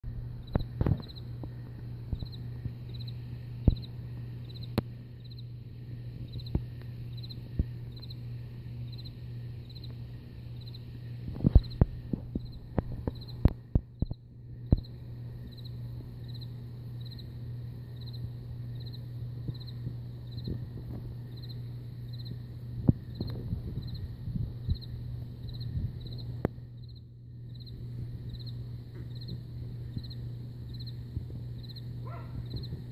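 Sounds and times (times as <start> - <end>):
steady low hum: 0.0 - 32.9
cricket chirping: 0.4 - 1.5, 2.1 - 32.9.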